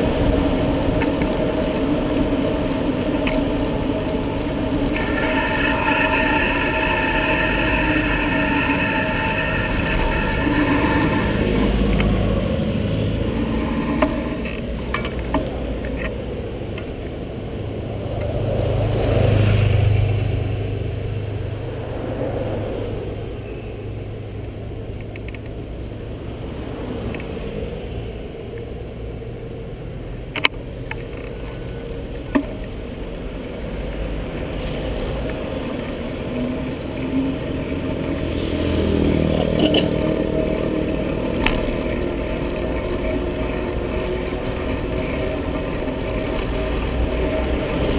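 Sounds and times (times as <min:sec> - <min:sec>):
road and wind noise: 0:00.0 - 0:47.9
vehicles passing: 0:00.0 - 0:47.9.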